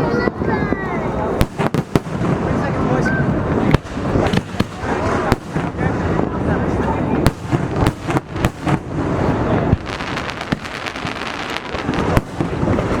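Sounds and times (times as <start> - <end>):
continuous rumble: 0.0 - 13.0
fireworks bangs: 0.0 - 13.0
fireworks crackling: 0.0 - 13.0.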